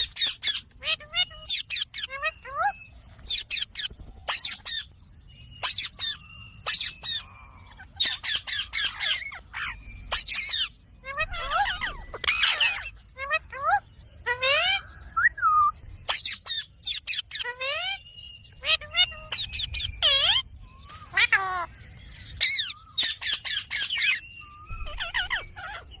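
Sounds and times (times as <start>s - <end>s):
parrot squawking: 0.0s - 4.9s, 5.6s - 14.9s, 16.1s - 20.5s, 21.1s - 21.7s, 22.4s - 26.0s.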